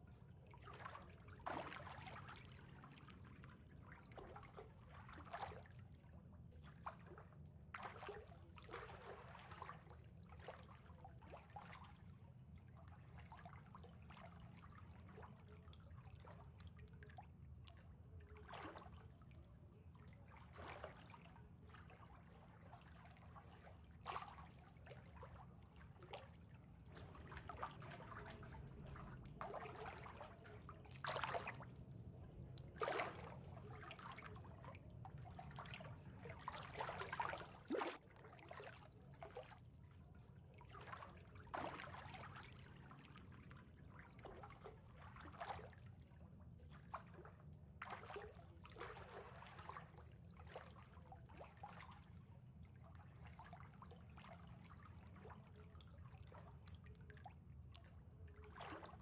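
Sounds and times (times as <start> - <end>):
water lapping and trickling: 0.0 - 59.0.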